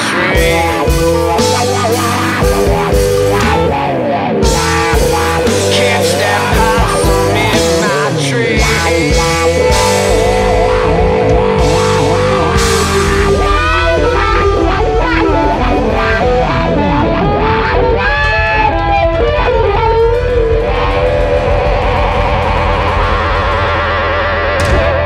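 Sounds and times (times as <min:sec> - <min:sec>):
bass line: 0:00.0 - 0:25.0
electric guitar with bent notes: 0:00.0 - 0:25.0.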